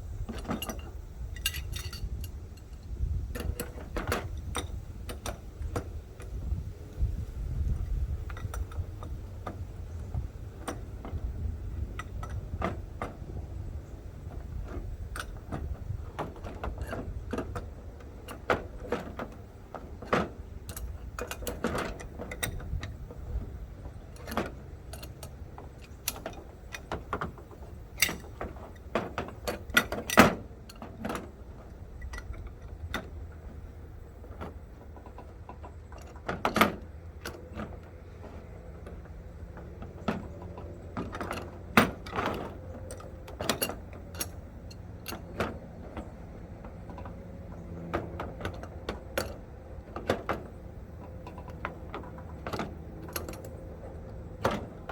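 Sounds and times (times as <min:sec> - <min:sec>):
low steady rumble: 0:00.0 - 0:54.9.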